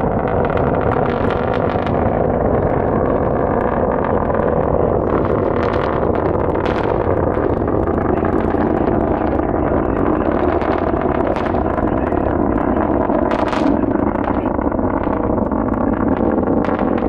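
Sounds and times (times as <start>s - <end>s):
distant rocket engine rumble: 0.0s - 17.0s.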